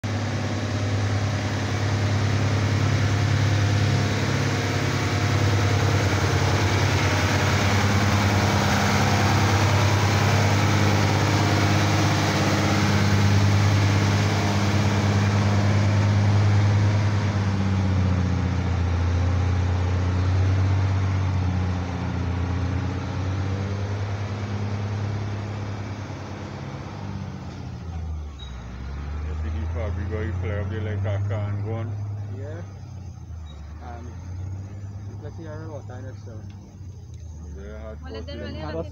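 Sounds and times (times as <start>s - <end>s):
fire truck diesel engine running: 0.0s - 38.9s.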